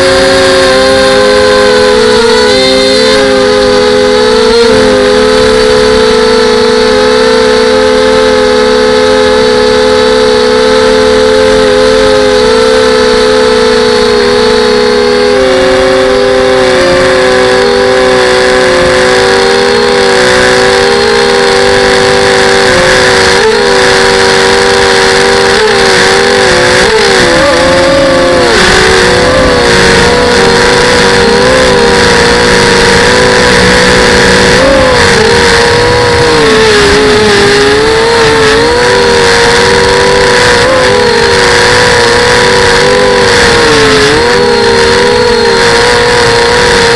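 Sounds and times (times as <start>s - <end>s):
quadcopter motors whining: 0.0s - 46.9s.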